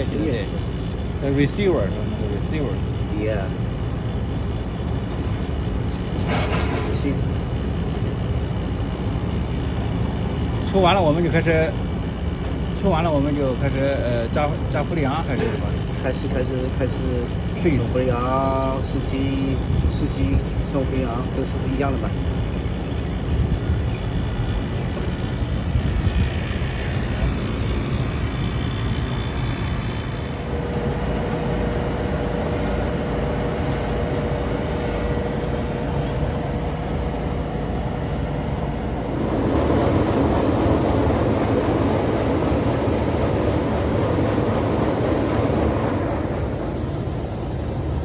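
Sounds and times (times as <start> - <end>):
faint steady hum: 0.0 - 48.0
machinery drone: 0.0 - 48.0.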